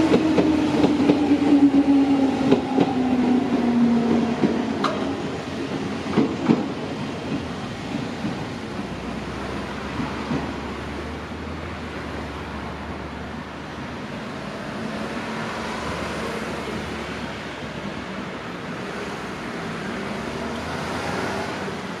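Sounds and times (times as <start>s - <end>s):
passing vehicles rumbling: 0.0s - 22.0s.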